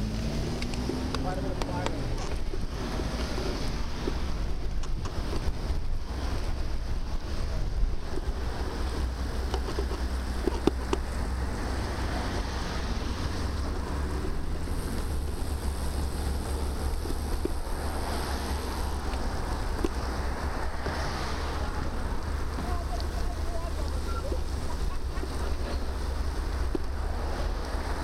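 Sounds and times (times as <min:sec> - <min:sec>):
wind buffeting microphone: 0:00.5 - 0:28.0.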